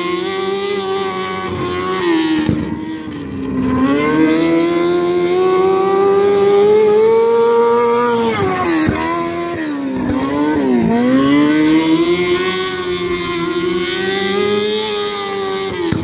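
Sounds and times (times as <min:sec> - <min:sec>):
racing car engine high revs: 0:00.0 - 0:16.0.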